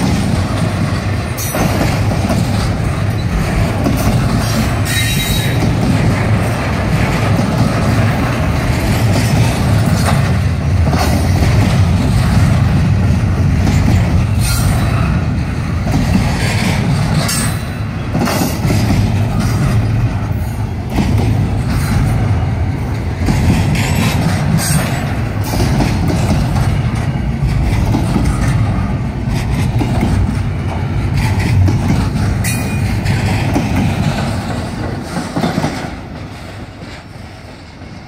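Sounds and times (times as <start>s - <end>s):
freight train wheels rumbling: 0.0s - 38.0s
wheels clicking on rails: 0.0s - 38.0s.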